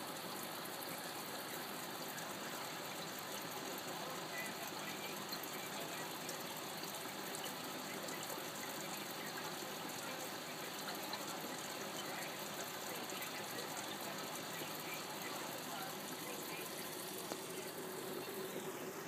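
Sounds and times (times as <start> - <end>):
aquarium water trickling: 0.0 - 19.0
fine fizzing crackle: 0.0 - 19.0.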